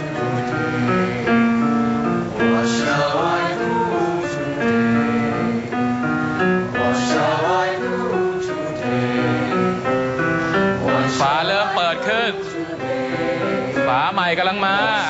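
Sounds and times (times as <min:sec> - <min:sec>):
sustained keyboard chords: 0:00.0 - 0:15.0.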